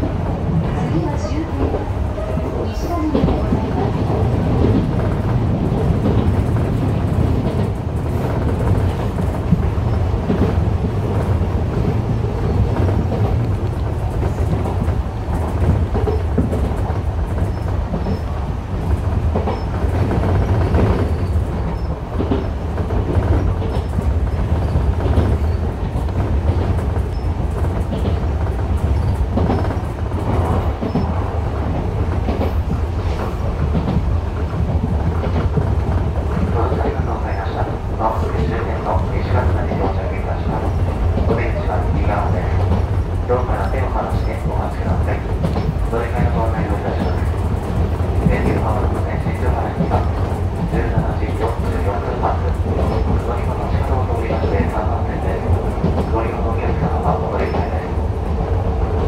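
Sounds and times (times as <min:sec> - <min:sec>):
wheels rumbling on rails: 0:00.0 - 0:59.0
rail-joint clicks: 0:01.6 - 0:59.0.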